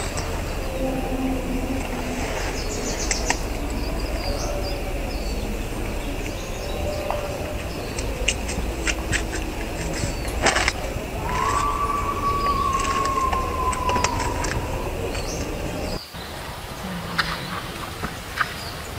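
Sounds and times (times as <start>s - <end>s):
faint animal calls: 0.0s - 16.0s
outdoor background hiss and hum: 0.0s - 18.9s.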